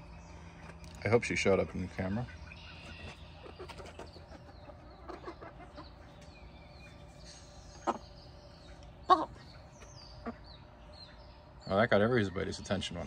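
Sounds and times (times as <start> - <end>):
hens clucking: 0.6 - 13.0
hens trilling calls: 1.4 - 12.9.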